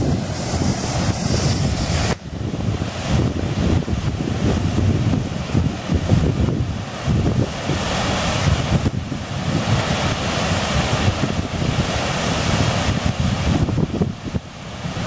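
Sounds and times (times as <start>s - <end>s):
water rushing over dam spillway: 0.0s - 15.0s
wind buffeting microphone: 0.0s - 15.0s.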